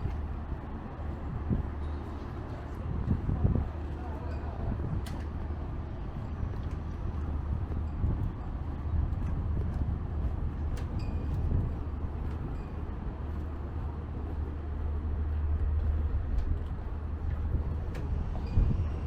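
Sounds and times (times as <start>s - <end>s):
city street noise: 0.0s - 19.0s
wind buffeting microphone: 0.0s - 19.0s.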